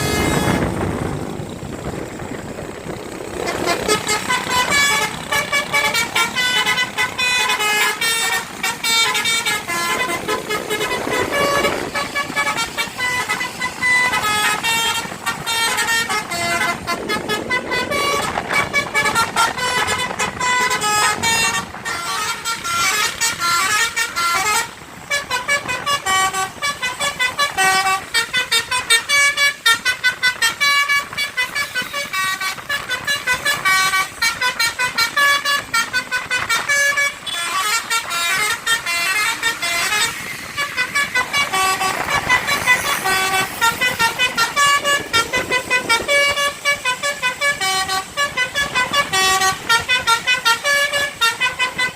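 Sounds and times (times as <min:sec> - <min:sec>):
bus multi-tone horn tune: 0:00.0 - 0:51.9.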